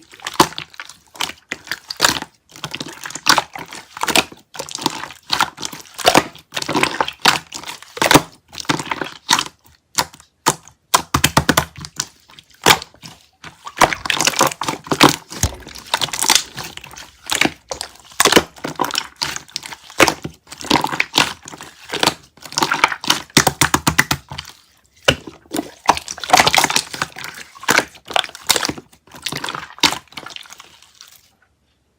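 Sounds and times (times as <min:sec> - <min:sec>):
slime crackling and squishing: 0:00.0 - 0:31.3.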